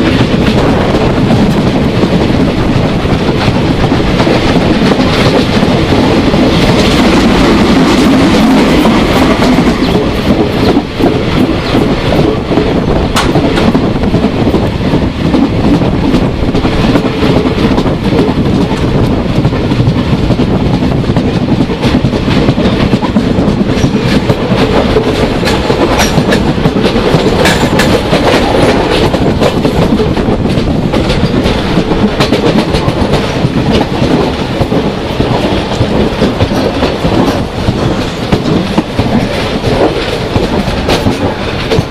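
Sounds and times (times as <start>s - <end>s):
steam train rumbling: 0.0s - 41.9s.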